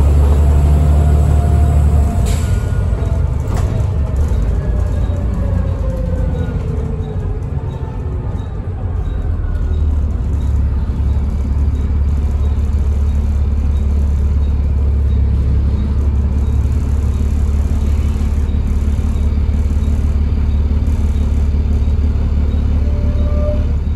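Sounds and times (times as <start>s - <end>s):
bus diesel engine droning: 0.0s - 23.9s.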